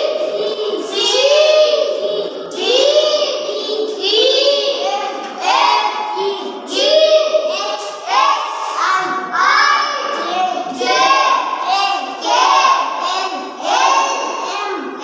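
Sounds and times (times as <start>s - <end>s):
children chanting in sing-song: 0.0s - 15.0s.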